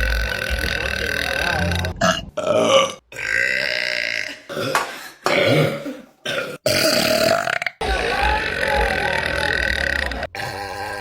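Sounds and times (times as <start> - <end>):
woman burping loudly: 0.0 - 11.0.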